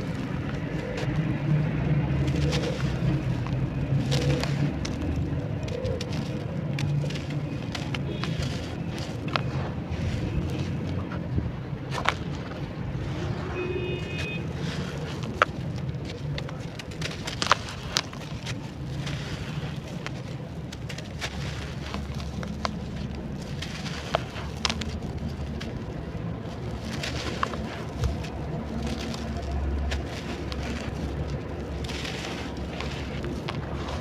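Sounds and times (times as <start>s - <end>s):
clay crumbling and crackling: 0.0s - 34.0s.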